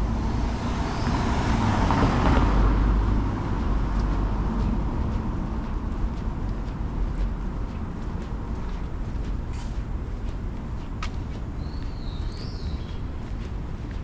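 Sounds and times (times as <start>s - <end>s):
car passing: 0.0s - 11.2s
city traffic rumble: 0.0s - 14.0s.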